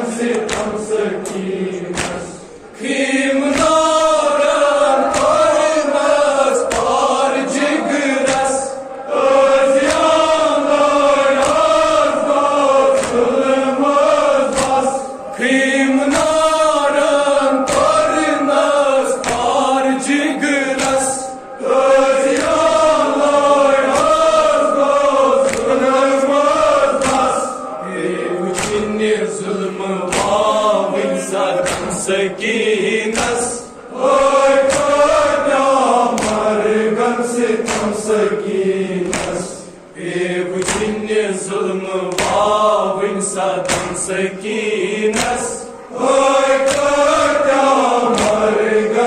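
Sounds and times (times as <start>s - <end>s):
sharp rhythmic strikes: 0.0s - 40.0s
men chanting together: 0.0s - 49.0s.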